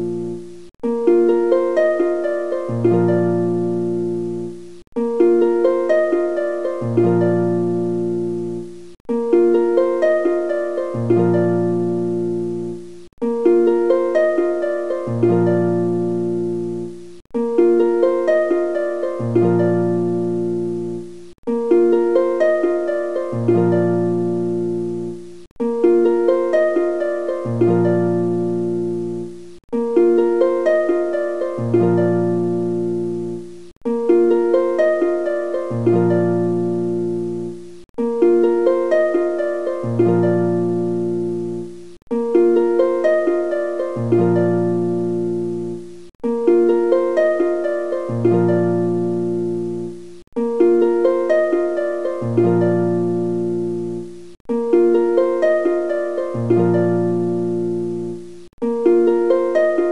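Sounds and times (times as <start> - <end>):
harp-like plucked string loop: 0.0 - 59.9.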